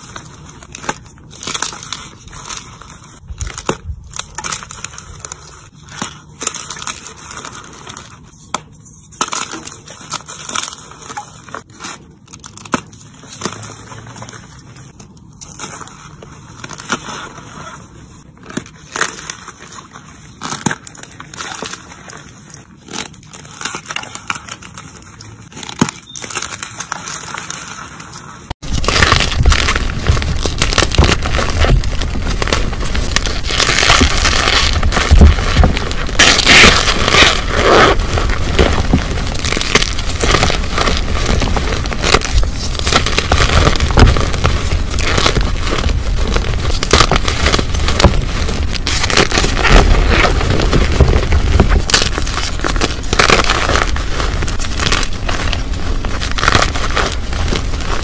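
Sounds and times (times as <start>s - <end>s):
chalk crumbling by hand: 0.0s - 58.0s.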